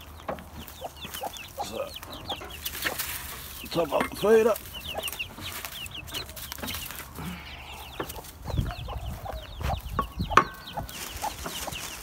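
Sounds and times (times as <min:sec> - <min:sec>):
hens clucking and chirping: 0:00.0 - 0:12.0.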